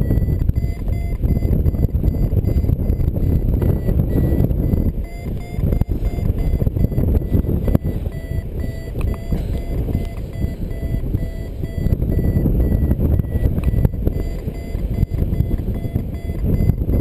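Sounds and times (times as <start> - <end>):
variometer short electronic beeps: 0.0 - 17.0
wind buffeting microphone: 0.0 - 17.0.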